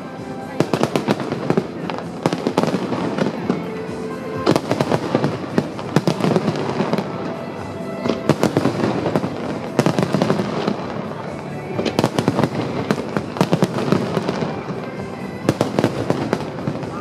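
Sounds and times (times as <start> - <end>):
continuous background noise: 0.0 - 17.0
fireworks bangs and crackle: 0.0 - 17.0.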